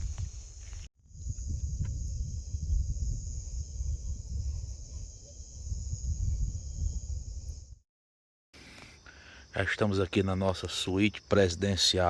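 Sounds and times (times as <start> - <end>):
crickets trilling: 0.0 - 7.8, 8.6 - 12.0.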